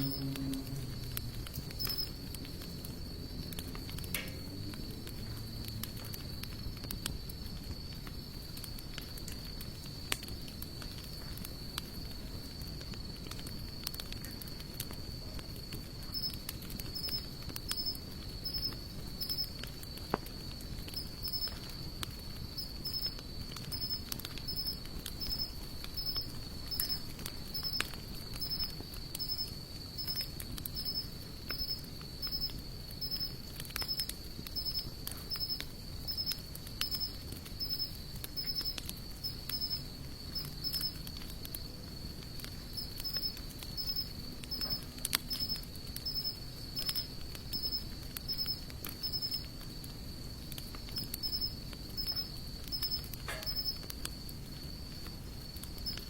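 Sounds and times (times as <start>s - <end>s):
campfire crackling and popping: 0.0s - 56.0s
insects chirping: 0.0s - 56.0s.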